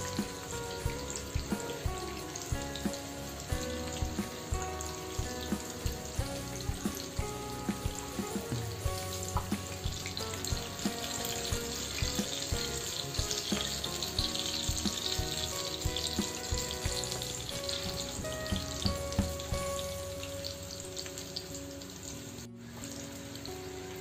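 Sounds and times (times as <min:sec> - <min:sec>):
food sizzling in hot oil: 0:00.0 - 0:24.0
oil popping: 0:00.0 - 0:24.0.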